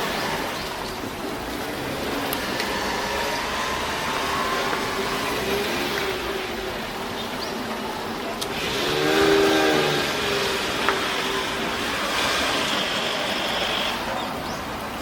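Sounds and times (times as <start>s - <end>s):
wheels rushing on rail: 0.0s - 15.0s.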